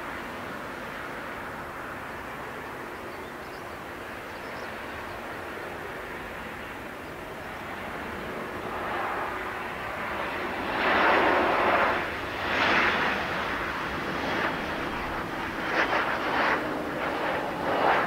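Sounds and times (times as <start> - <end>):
jet airliner landing approach: 0.0 - 18.0.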